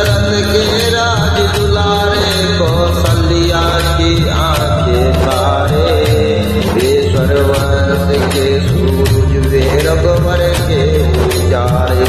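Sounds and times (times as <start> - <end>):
devotional song with percussion backing: 0.0 - 12.0.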